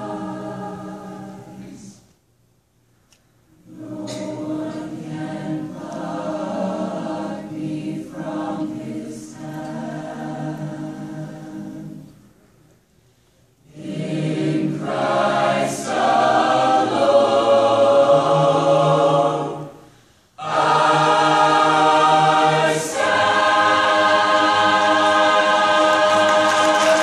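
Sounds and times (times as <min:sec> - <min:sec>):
choir singing a hymn: 0:00.0 - 0:02.1, 0:03.6 - 0:12.3, 0:13.6 - 0:27.0.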